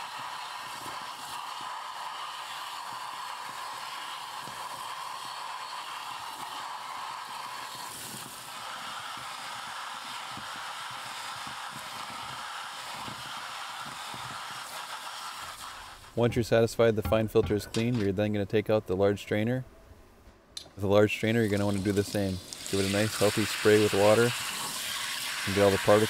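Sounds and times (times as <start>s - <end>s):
water spray hissing into sink: 0.0s - 16.2s, 21.3s - 26.0s.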